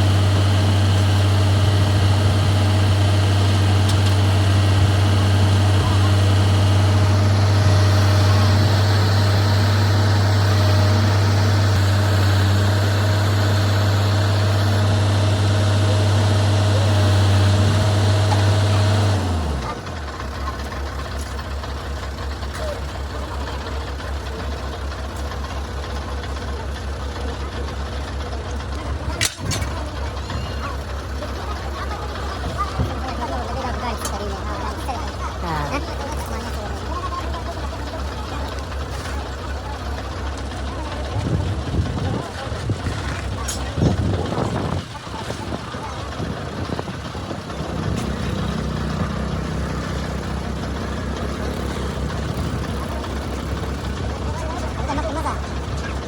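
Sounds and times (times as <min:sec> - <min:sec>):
heavy engine idling: 0:00.0 - 0:56.0.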